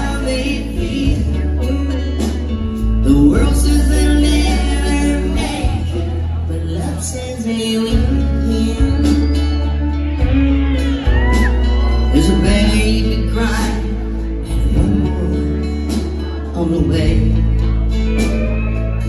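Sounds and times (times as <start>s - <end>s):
bass line: 0.0s - 19.0s
live country band playing: 0.0s - 19.0s.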